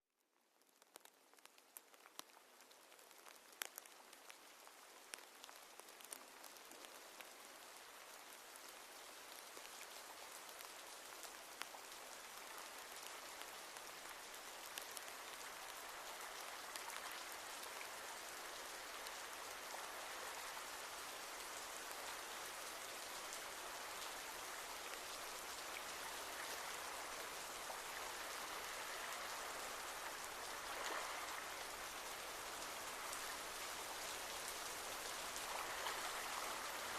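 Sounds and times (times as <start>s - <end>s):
rain falling: 0.2s - 36.9s.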